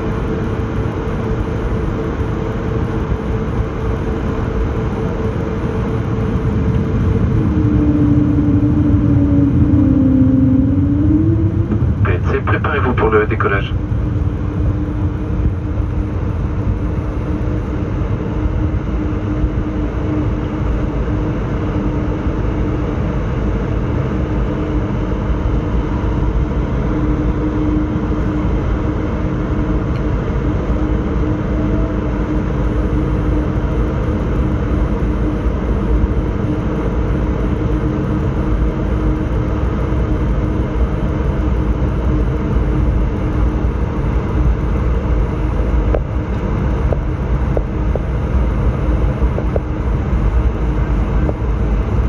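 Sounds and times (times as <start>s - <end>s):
aircraft cabin rumble: 0.0s - 20.2s, 25.6s - 52.0s
steady hum: 0.0s - 52.0s.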